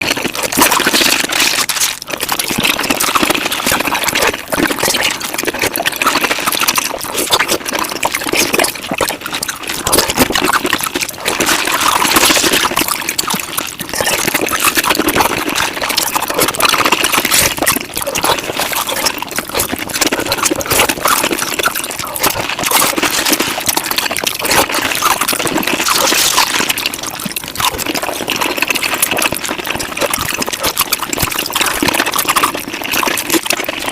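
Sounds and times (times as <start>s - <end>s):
sped up chewing and mouth noises: 0.0s - 33.9s.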